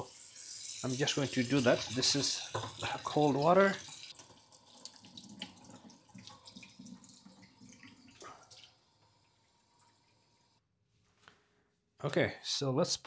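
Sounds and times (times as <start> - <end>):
faucet water running into sink: 0.0 - 10.6.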